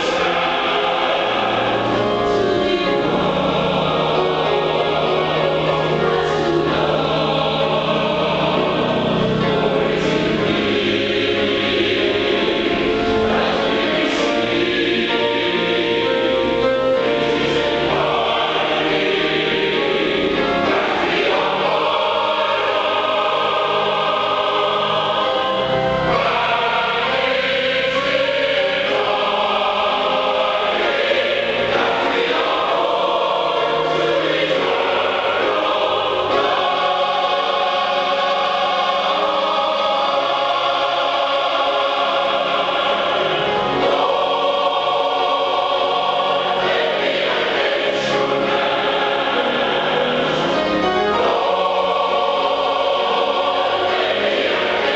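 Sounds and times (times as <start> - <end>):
mixed choir singing: 0.0 - 54.9.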